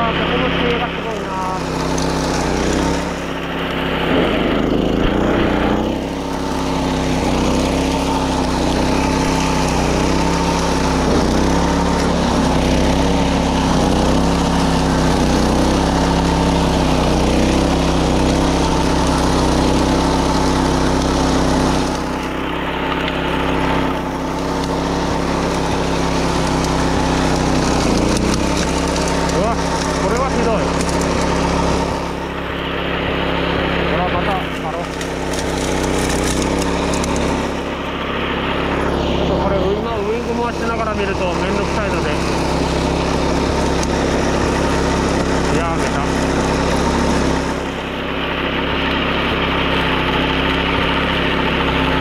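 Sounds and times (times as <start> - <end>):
mower engine cutting grass: 0.0 - 52.0.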